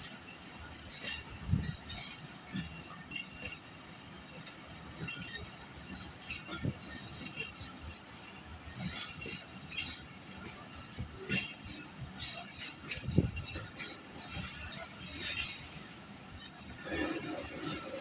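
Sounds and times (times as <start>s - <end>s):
train wheels clicking on rails: 0.0s - 18.0s.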